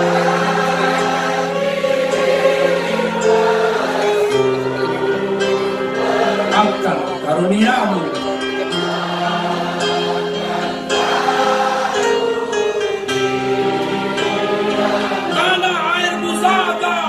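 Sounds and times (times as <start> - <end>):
devotional song with instruments: 0.0 - 17.0.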